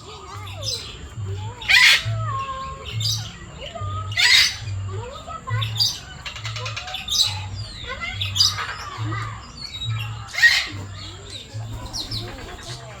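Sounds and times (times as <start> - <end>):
caged birds chirping: 0.0 - 13.0
harsh bird squawks: 1.6 - 2.2, 2.9 - 13.0.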